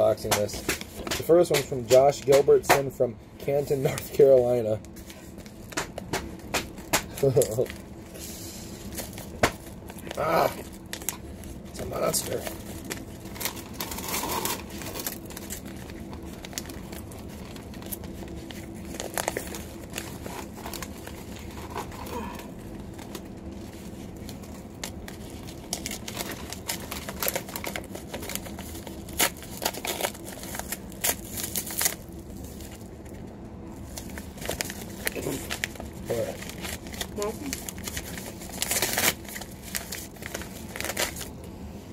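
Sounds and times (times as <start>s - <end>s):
bubble mailer tearing and crinkling: 3.5s - 41.4s.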